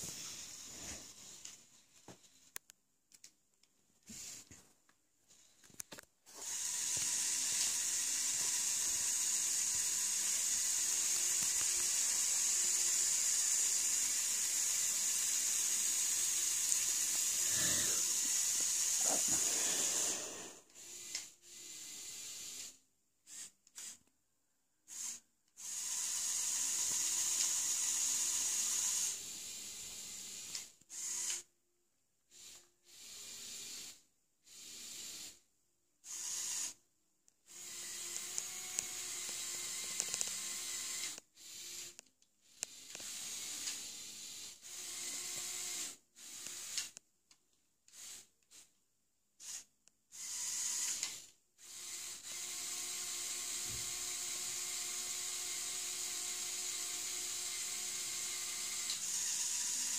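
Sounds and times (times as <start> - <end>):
toy electric motors whirring: 0.0 - 1.6, 6.2 - 24.1, 24.8 - 31.5, 32.3 - 35.4, 36.0 - 36.8, 37.4 - 47.0, 47.9 - 48.8, 49.4 - 59.9.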